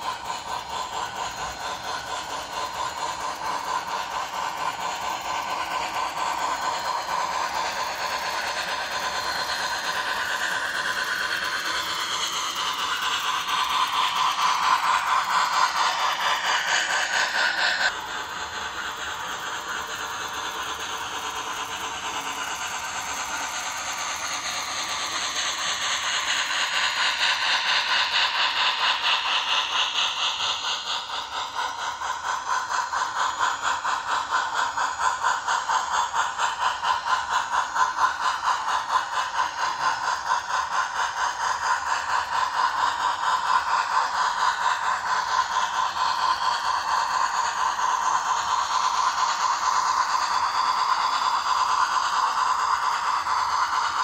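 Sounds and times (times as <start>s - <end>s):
steam chuffing from small speaker: 0.0s - 54.0s.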